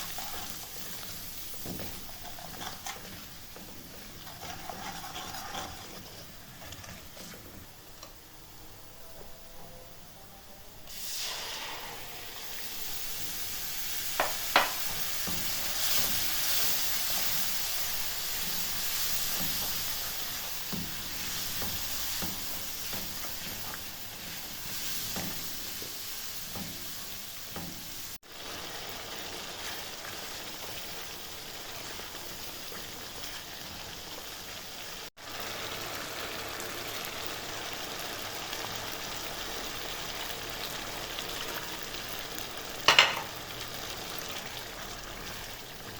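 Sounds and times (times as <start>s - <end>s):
food sizzling in hot oil: 0.0s - 8.5s, 10.9s - 45.9s.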